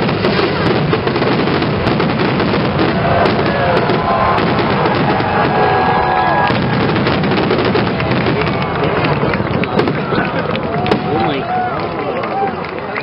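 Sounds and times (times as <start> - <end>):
fireworks bangs and crackling: 0.0 - 12.8.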